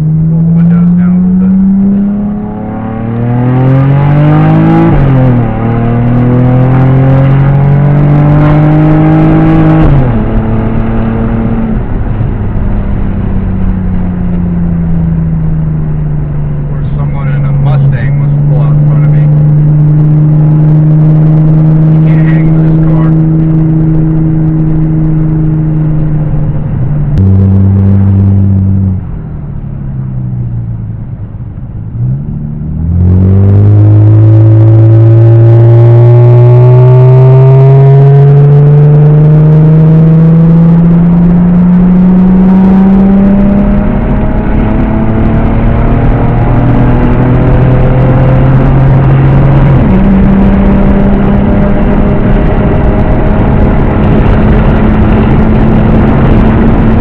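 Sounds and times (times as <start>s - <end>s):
car engine and exhaust: 0.0s - 57.0s.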